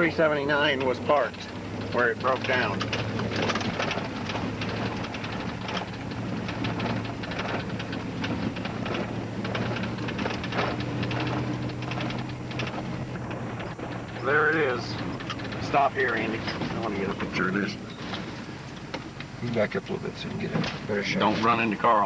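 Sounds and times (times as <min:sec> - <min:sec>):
rattle and clatter: 0:00.0 - 0:22.0
truck engine running: 0:00.0 - 0:22.0.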